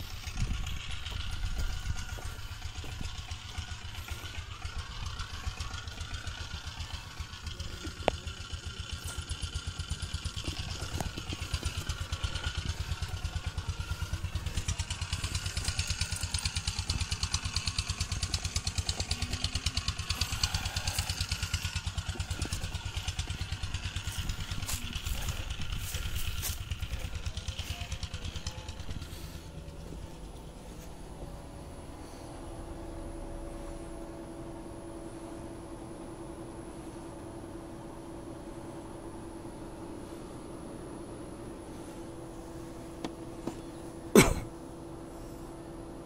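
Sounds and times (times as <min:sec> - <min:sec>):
small engine idling: 0:00.0 - 0:46.0.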